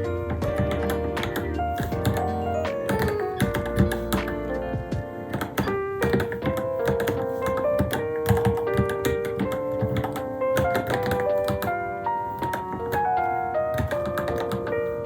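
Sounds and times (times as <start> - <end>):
background music: 0.0 - 15.0
mechanical keyboard keystrokes: 0.5 - 4.5, 5.3 - 11.8, 12.4 - 13.1, 13.7 - 14.7.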